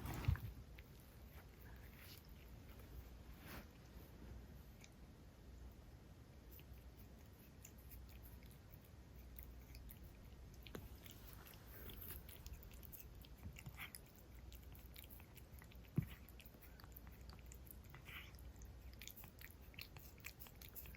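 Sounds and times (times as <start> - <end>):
cat licking its fur: 0.0 - 5.0, 6.4 - 20.9.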